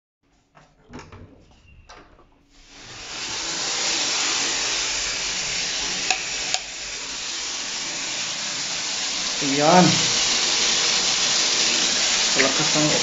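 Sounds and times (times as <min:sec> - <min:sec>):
water spraying from hose: 0:02.6 - 0:13.0.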